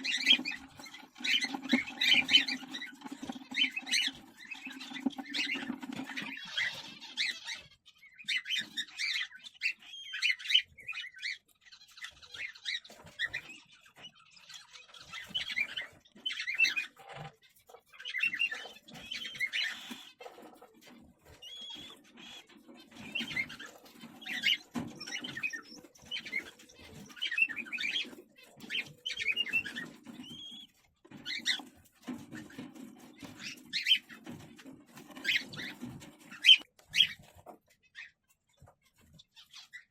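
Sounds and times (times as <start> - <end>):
cockatiels chirping and squeaking: 0.0 - 39.9.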